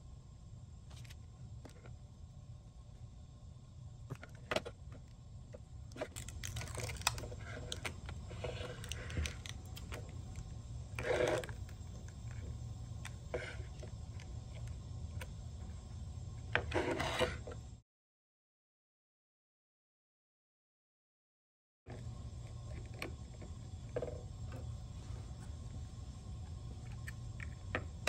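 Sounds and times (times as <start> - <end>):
steady low hum: 0.0 - 17.8, 21.9 - 28.0.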